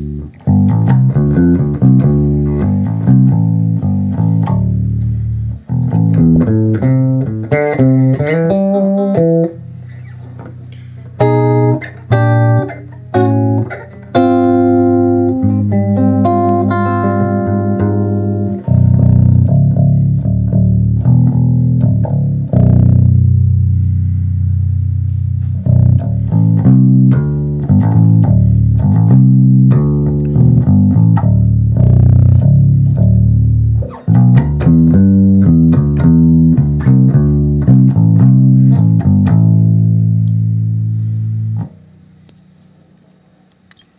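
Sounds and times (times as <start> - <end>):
electric bass guitar through amp: 0.0 - 42.6.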